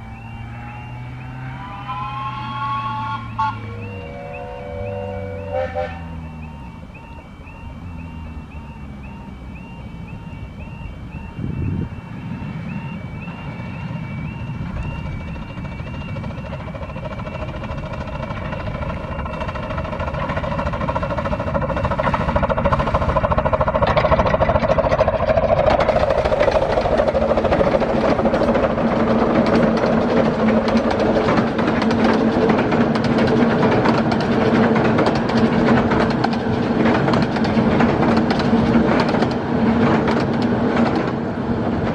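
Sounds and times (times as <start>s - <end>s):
steam locomotive exhaust beats: 0.0s - 41.9s
train clattering on rails: 1.0s - 41.9s.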